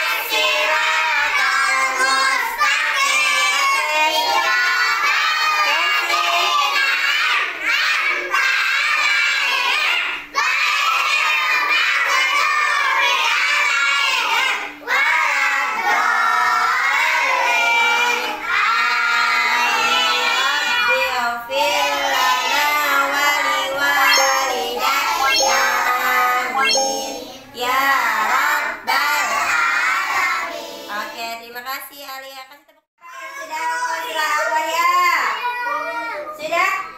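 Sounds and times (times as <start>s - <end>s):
children singing in unison: 0.0s - 31.0s.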